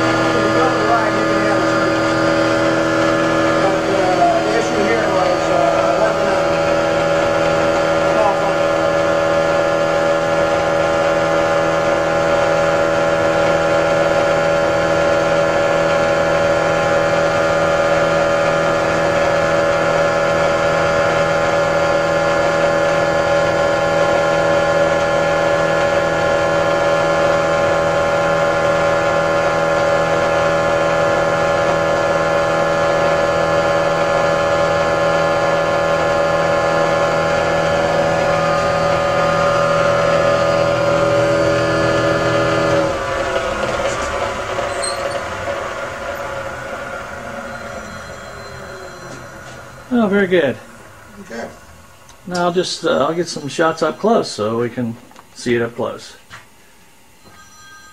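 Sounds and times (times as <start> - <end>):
generator hum and whine: 0.0 - 57.9.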